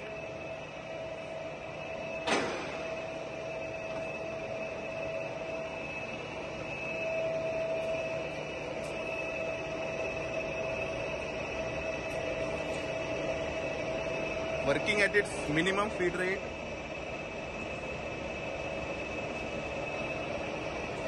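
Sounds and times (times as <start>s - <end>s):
lathe hum and whine: 0.0s - 21.0s.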